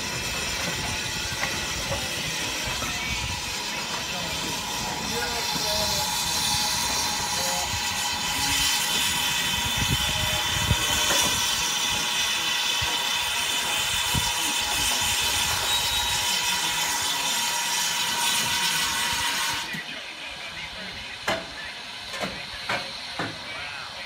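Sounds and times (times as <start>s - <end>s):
steam locomotive hissing steam: 0.0s - 24.0s.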